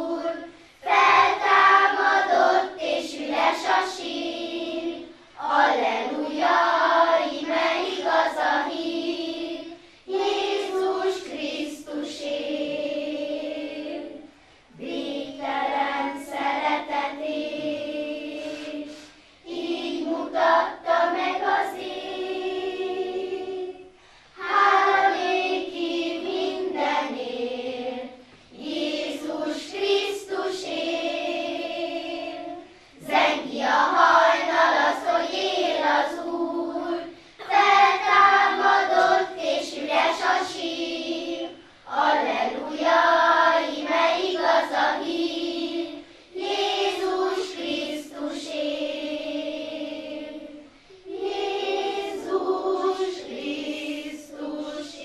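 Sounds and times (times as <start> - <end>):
girls' choir singing: 0.0 - 55.0.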